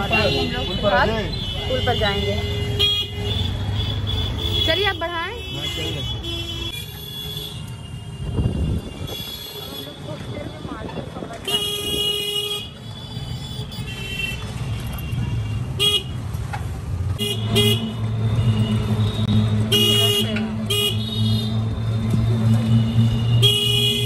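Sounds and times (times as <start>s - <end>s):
vehicle horns tooting: 0.0s - 10.6s, 11.4s - 16.2s, 17.2s - 21.6s, 22.6s - 24.0s
street traffic: 0.0s - 24.0s.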